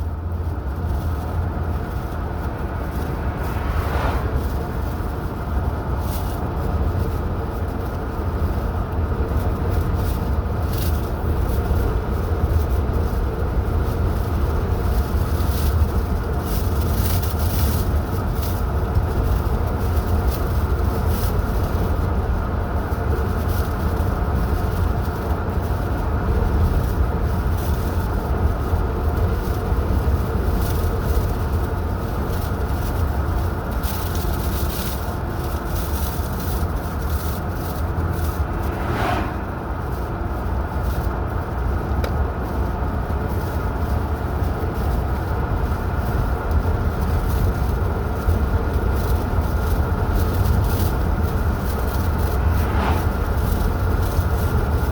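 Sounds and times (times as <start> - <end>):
car engine and tyres rumbling: 0.0 - 54.9.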